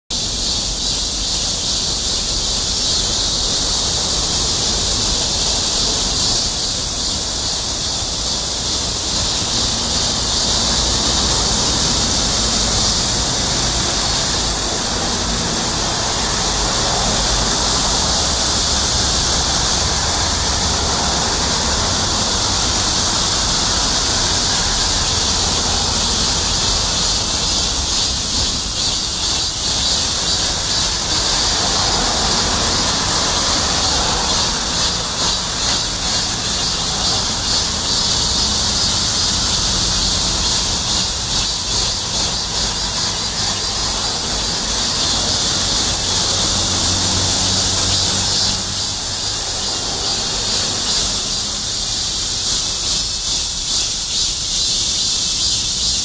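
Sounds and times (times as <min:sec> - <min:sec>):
high-pitched hiss: 0:00.1 - 0:56.0.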